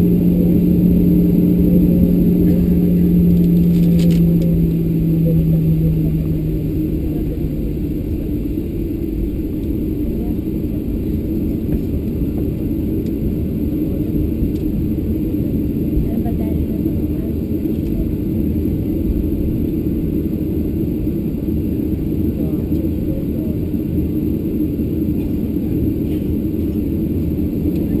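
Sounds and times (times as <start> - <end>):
airplane engines rumbling: 0.0 - 28.0
low hum: 0.0 - 28.0.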